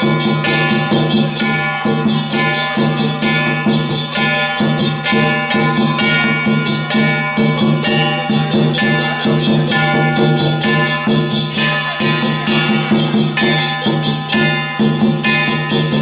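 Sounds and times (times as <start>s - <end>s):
ringing percussion strokes: 0.0s - 16.0s.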